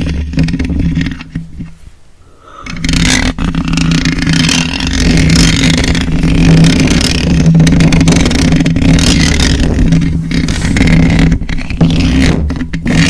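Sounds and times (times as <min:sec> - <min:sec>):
scratching and rubbing on microphone: 0:00.0 - 0:13.0.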